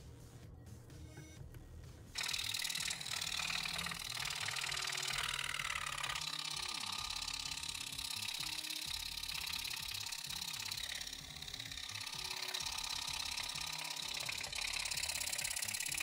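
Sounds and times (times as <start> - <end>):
scroll saw cutting plywood: 2.2 - 16.0.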